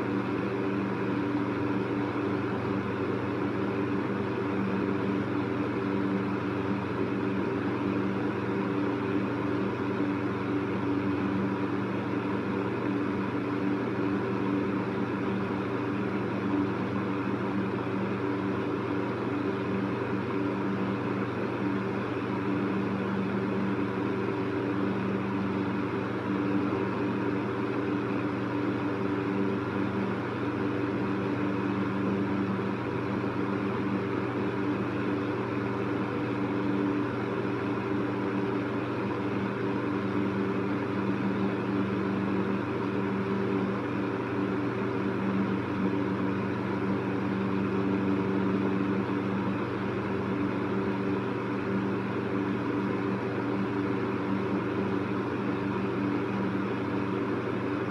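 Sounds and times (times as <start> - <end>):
electric fan running: 0.0 - 57.9.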